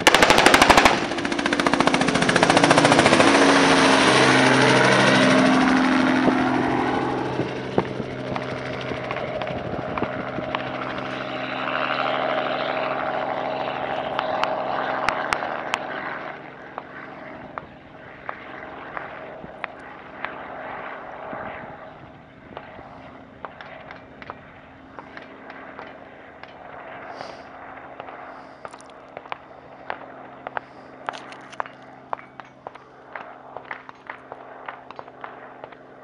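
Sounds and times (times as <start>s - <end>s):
helicopter humming: 0.0s - 36.0s.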